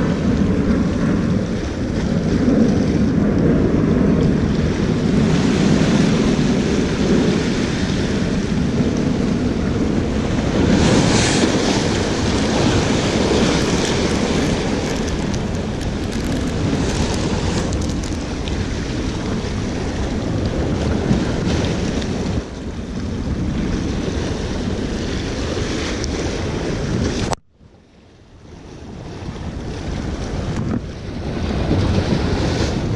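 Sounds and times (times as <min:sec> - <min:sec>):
small waves washing against rocks: 0:00.0 - 0:27.3
wind buffeting microphone: 0:00.0 - 0:32.9.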